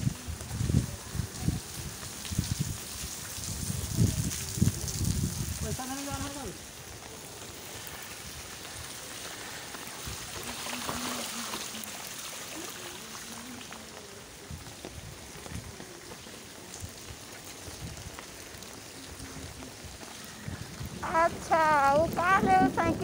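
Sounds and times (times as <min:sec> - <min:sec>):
rain on an umbrella: 0:00.0 - 0:23.0.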